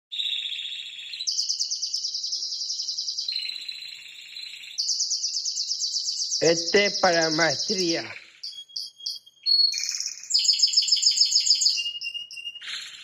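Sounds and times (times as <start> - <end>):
canary singing trills: 0.1 - 13.0.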